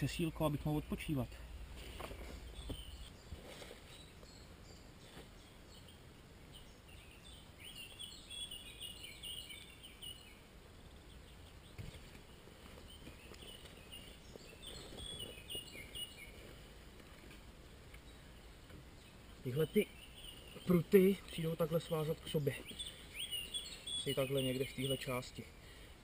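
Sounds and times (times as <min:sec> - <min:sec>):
small birds singing: 0:00.0 - 0:26.0.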